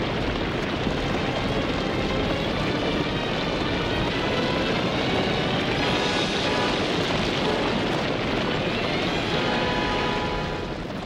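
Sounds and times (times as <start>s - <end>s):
stampede of running feet: 0.0s - 11.0s.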